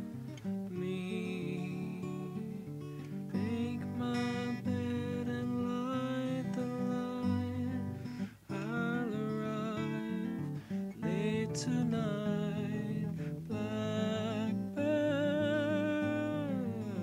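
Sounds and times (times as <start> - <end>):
acoustic guitar: 0.0 - 17.0
man singing: 0.1 - 17.0.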